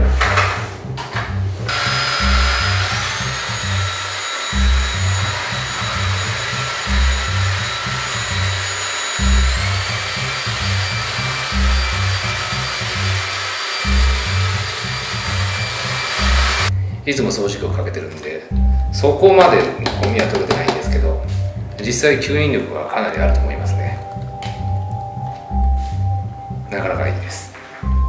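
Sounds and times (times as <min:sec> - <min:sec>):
background music with low beat: 0:00.0 - 0:28.0.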